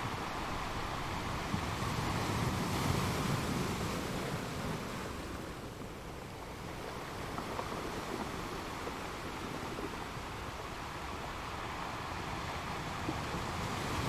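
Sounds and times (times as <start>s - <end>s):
sea waves washing onto shore: 0.0s - 14.0s.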